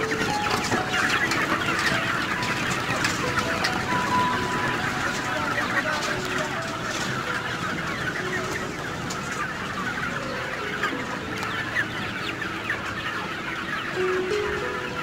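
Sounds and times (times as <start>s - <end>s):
hens and roosters clucking: 0.0s - 15.0s.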